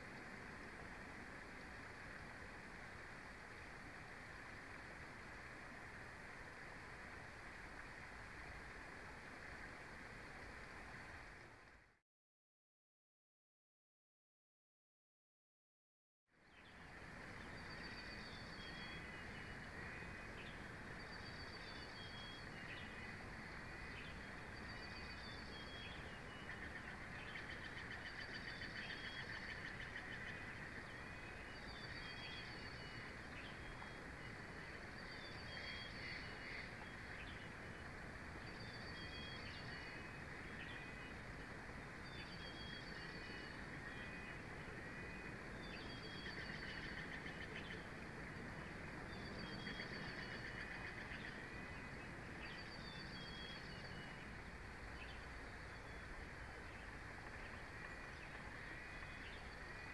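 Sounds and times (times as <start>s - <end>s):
outdoor background hiss: 0.0s - 12.0s, 16.4s - 59.9s.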